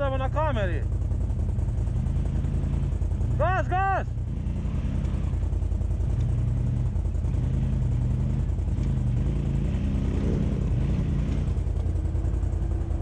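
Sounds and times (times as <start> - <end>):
quad engine idling: 0.0 - 13.0
quad engine revving: 1.7 - 13.0.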